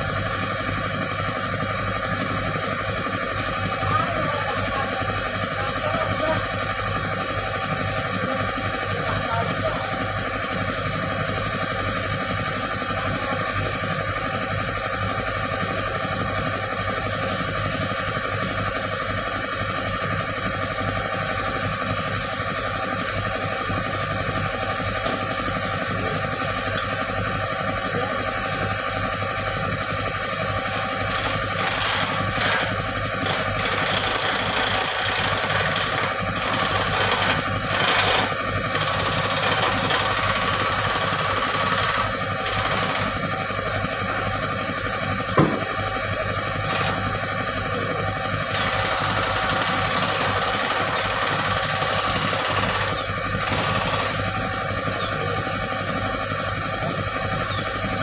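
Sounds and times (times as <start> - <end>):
excavator diesel engine idling: 0.0 - 58.0.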